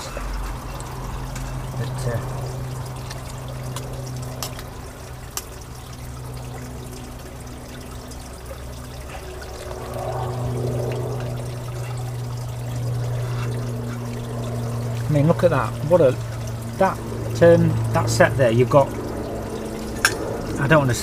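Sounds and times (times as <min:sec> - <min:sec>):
food sizzling and bubbling in pot: 0:00.0 - 0:21.0
steady low hum: 0:00.0 - 0:21.0.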